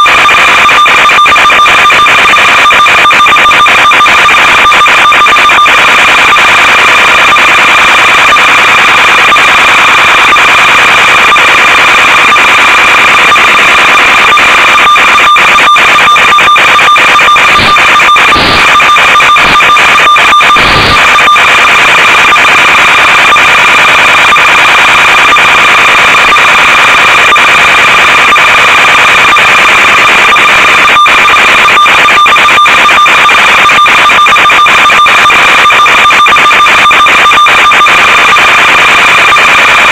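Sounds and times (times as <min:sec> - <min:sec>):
radio static hiss and buzz: 0:00.0 - 0:39.9
constant high whine: 0:00.1 - 0:39.9.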